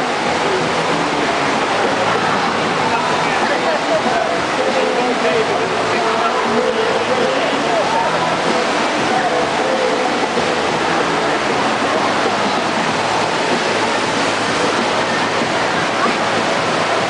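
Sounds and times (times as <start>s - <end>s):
rushing pumped water: 0.0s - 17.0s.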